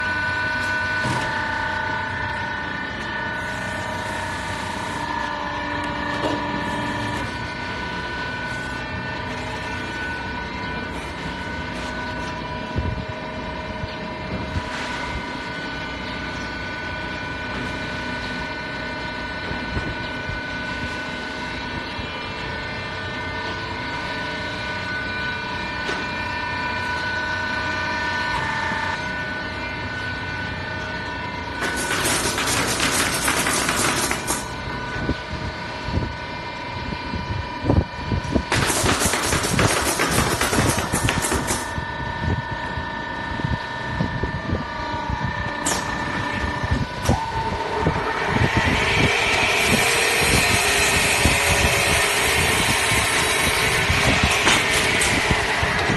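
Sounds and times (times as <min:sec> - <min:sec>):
machine drone with motor whine: 0:00.0 - 0:55.9.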